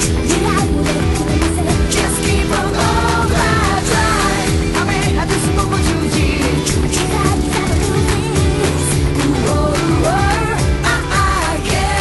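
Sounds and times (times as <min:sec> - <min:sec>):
pop song with singing and band: 0:00.0 - 0:12.0.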